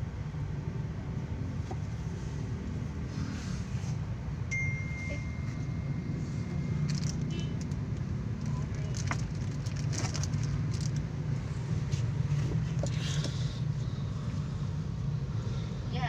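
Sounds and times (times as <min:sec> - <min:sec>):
engine and road rumble in car: 0:00.0 - 0:16.0.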